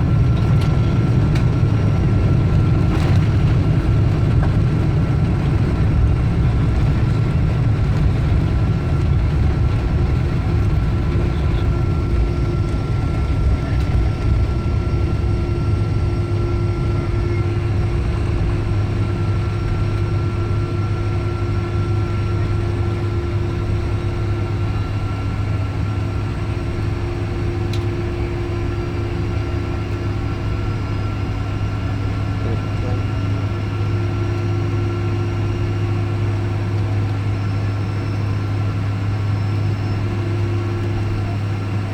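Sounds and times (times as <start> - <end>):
aircraft cabin rumble: 0.0 - 41.9.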